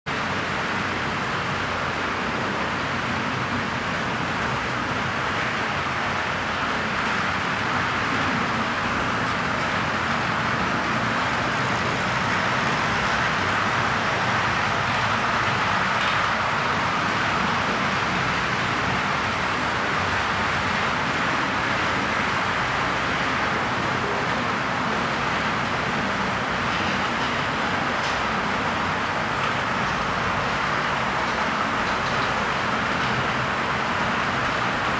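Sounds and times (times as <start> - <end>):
wheels rolling on track: 0.1 - 34.9.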